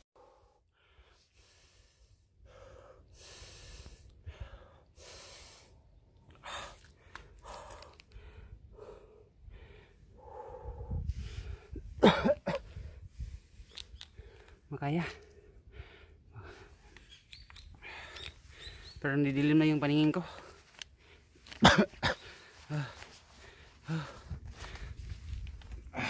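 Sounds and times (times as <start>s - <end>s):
heavy breathing: 0.2s - 12.0s, 12.6s - 19.0s, 20.2s - 21.6s, 22.2s - 26.0s.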